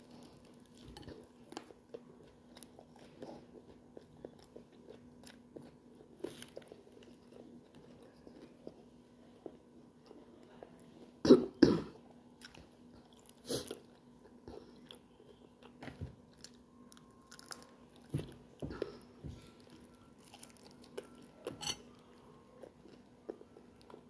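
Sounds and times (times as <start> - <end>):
person chewing food: 0.0 - 10.8, 12.4 - 24.0.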